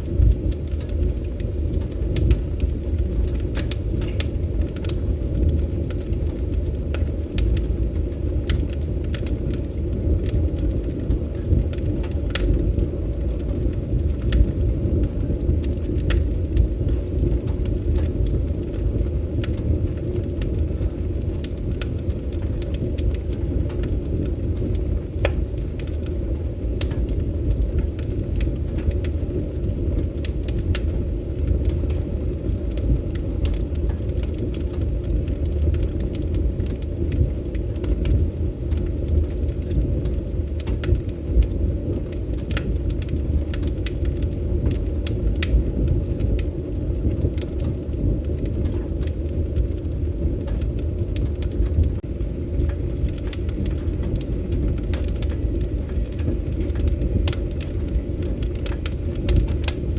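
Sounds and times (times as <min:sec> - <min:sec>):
fire crackles and pops: 0:00.0 - 0:59.9
fire flames rumbling: 0:00.0 - 0:59.9.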